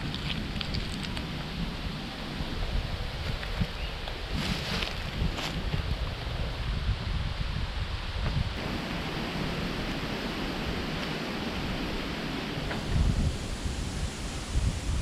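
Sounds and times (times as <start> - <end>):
strong wind blowing: 0.0 - 15.0
wind buffeting microphone: 0.0 - 15.0.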